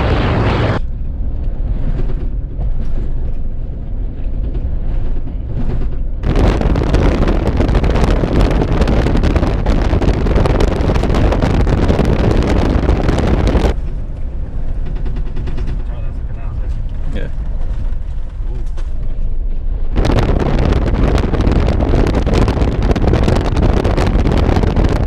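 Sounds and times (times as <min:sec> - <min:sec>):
drivetrain and tyres rumbling: 0:00.0 - 0:25.0
wind buffeting microphone: 0:00.0 - 0:25.0.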